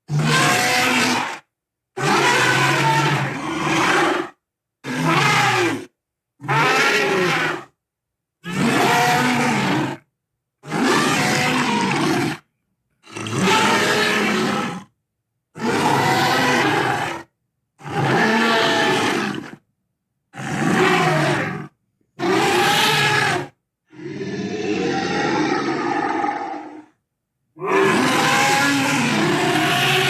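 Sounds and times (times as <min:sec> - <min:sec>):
dinosaur roars and growls: 0:00.0 - 0:07.8, 0:08.4 - 0:19.7, 0:20.3 - 0:27.0, 0:27.6 - 0:30.0.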